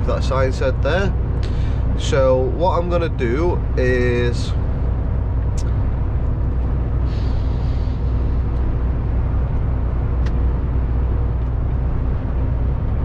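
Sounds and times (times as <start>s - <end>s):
lorry engine drone: 0.0s - 13.0s
road noise: 0.0s - 13.0s.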